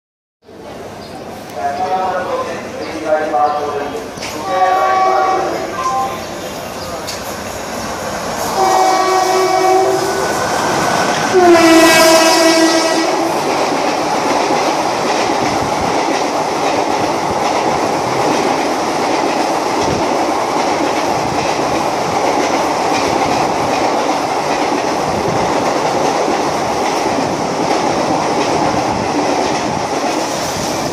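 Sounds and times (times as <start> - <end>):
train rushing past: 0.5 - 30.9.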